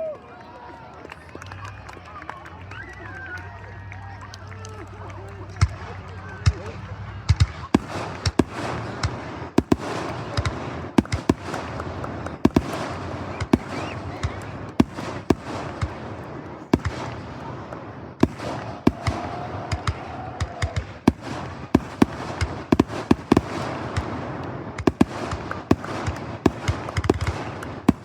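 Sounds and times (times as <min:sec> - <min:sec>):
firework shells bursting: 0:04.9 - 0:28.0.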